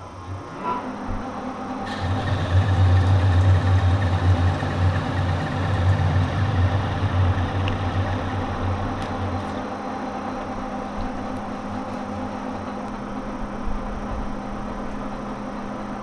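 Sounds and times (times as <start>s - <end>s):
metal lathe humming: 0.0s - 16.0s.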